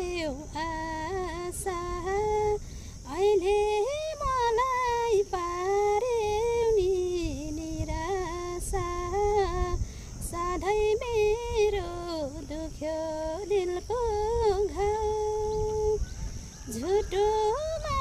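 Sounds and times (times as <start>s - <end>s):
woman singing unaccompanied: 0.0s - 16.0s, 16.7s - 18.0s.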